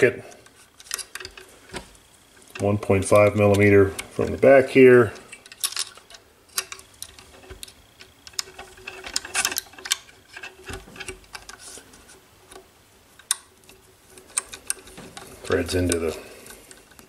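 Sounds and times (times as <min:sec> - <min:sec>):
small parts clicking and tapping: 0:00.0 - 0:17.0.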